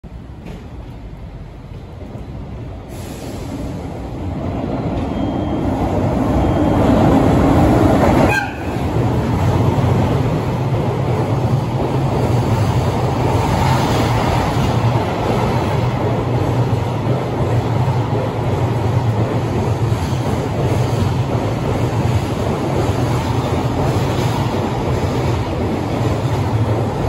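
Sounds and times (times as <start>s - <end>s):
electric locomotive passing: 0.1s - 27.0s
freight wagons rumbling on rails: 0.1s - 27.0s.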